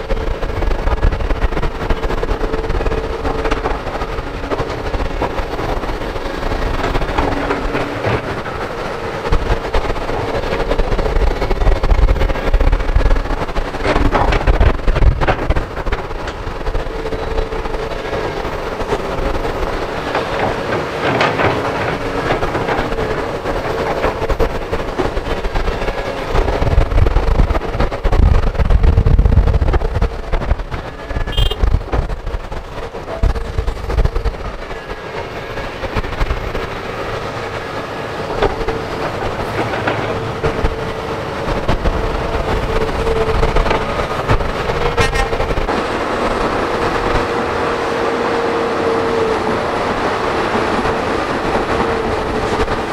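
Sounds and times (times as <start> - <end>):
excavator diesel engines: 0.0 - 52.9.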